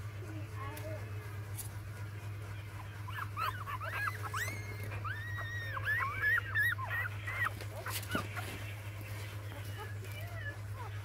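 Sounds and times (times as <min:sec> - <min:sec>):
steady low hum: 0:00.0 - 0:11.0
puppies whimpering: 0:01.7 - 0:11.0.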